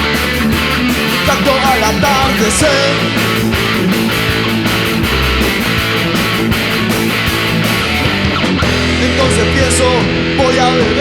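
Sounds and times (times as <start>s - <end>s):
bass guitar: 0.0s - 11.0s
electric guitars strumming: 0.0s - 11.0s
steady drum beat: 0.0s - 11.0s.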